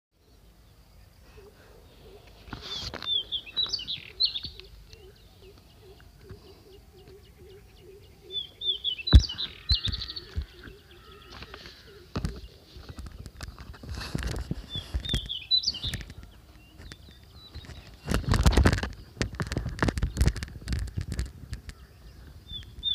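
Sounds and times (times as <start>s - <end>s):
small birds twittering: 0.2s - 22.9s.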